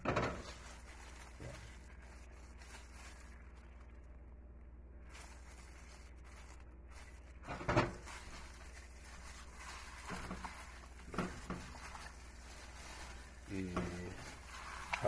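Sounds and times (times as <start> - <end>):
hand mixing meat in a dish: 0.0 - 4.3, 4.9 - 15.0.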